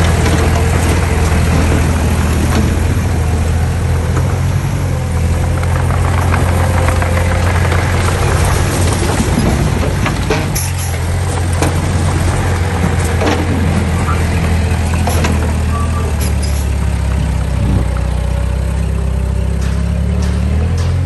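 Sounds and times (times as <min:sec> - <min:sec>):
diesel engine running at low revs: 0:00.0 - 0:21.0.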